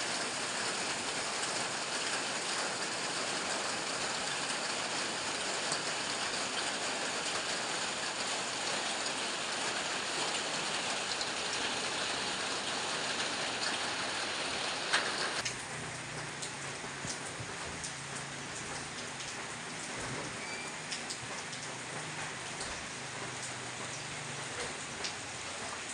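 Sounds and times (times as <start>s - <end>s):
heavy rain falling: 0.0s - 25.9s
rain drops ticking: 0.0s - 25.9s.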